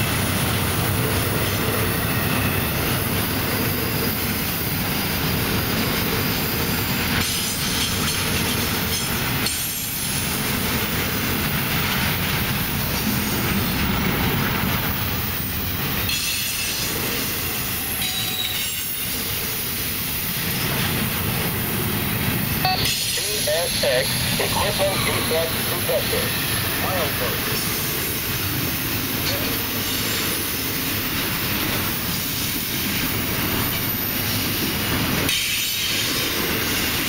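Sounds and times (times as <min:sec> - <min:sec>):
train rumbling and rattling: 0:00.0 - 0:37.0.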